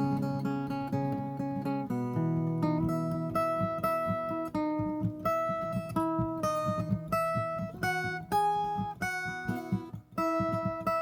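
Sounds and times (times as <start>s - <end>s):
plucked guitar melody: 0.0s - 11.0s.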